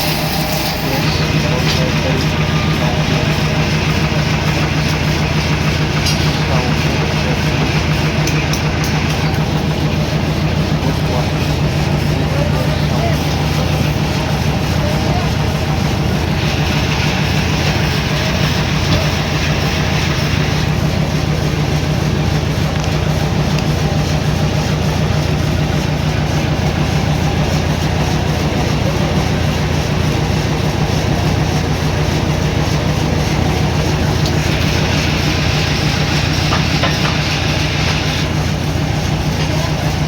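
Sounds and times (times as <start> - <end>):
machinery hissing: 0.0 - 40.0
sawmill machinery running: 0.0 - 40.0.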